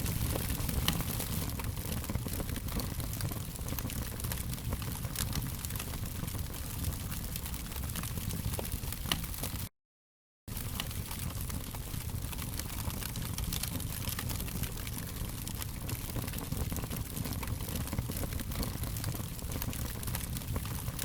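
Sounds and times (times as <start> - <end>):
wood fire crackling: 0.0 - 9.7, 10.5 - 21.0.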